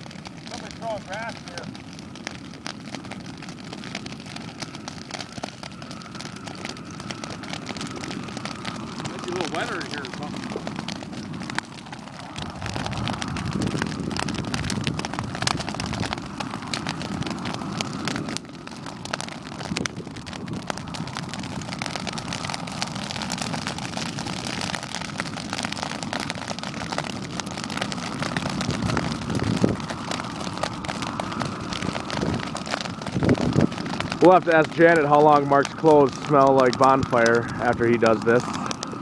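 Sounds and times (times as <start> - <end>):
dry grass crackling in fire: 0.0 - 39.0
rush of flame: 0.0 - 39.0.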